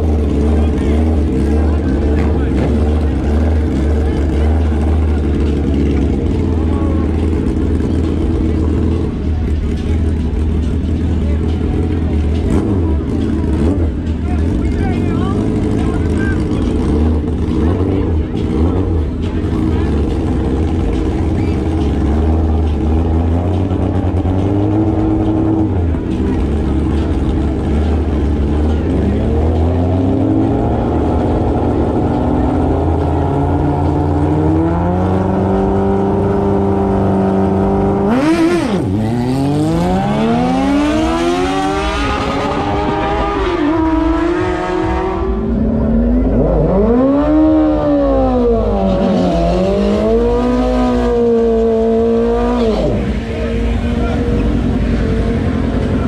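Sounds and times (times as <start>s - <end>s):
motorbike engines revving: 0.0s - 56.0s
motorbikes accelerating through gears: 0.0s - 56.0s.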